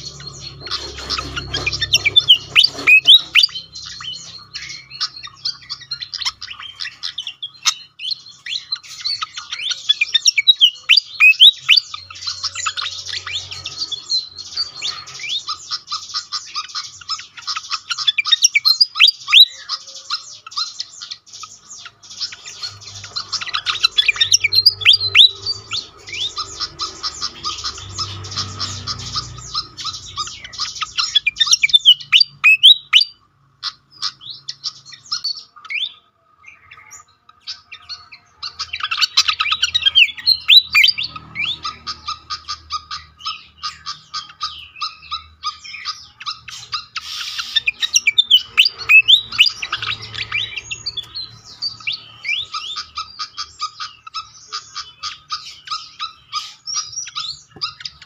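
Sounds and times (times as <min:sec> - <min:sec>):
bird squeaky chattering calls: 0:00.0 - 0:58.0.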